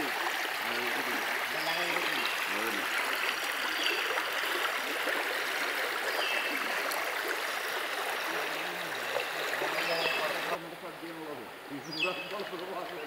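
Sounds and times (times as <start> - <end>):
river rushing over stones: 0.0 - 10.6.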